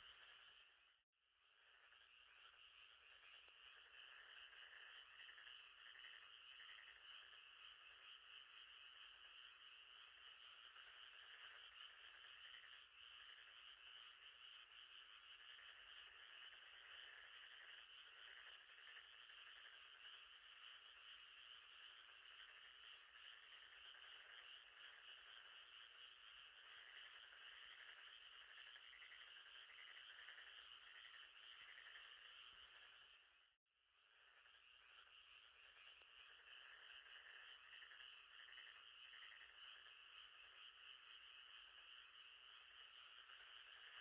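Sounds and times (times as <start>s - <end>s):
frogs calling at night: 0.0s - 44.0s.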